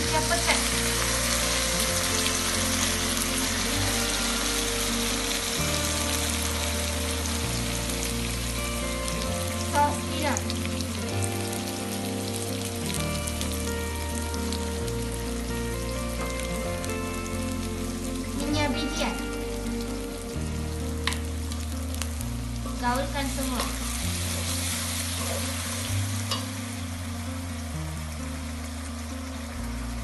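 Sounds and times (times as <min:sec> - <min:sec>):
background music: 0:00.0 - 0:30.0
onions sizzling in hot oil: 0:00.0 - 0:30.0.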